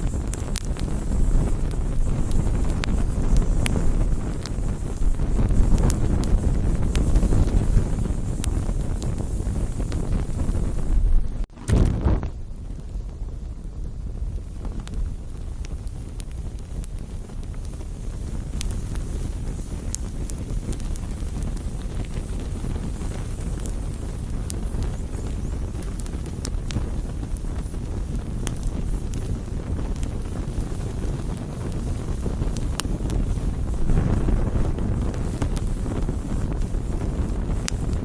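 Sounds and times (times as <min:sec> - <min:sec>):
campfire wood crackling: 0:00.0 - 0:38.0
fire low rumble: 0:00.0 - 0:38.0.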